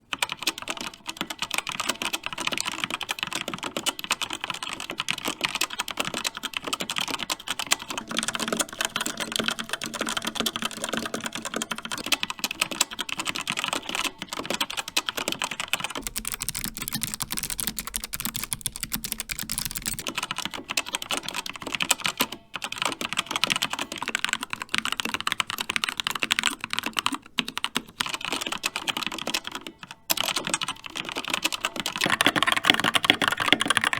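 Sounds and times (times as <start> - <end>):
fast mechanical keyboard typing: 0.0 - 33.9.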